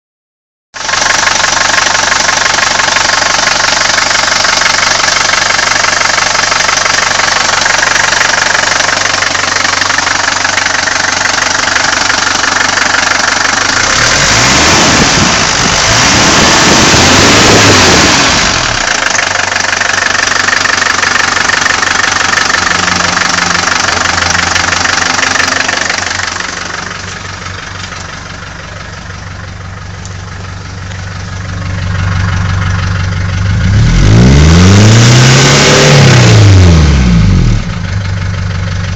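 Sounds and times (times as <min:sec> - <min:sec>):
diesel engine idling and revving: 0:00.8 - 0:38.9.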